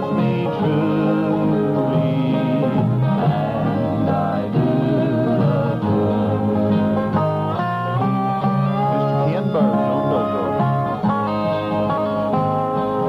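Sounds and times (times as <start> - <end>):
acoustic string band playing: 0.0 - 13.0.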